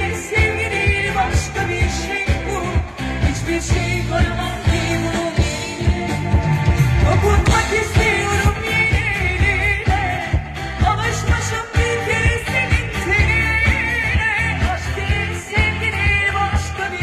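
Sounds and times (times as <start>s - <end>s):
live pop band playing: 0.0s - 17.0s
woman singing into microphone: 0.0s - 17.0s.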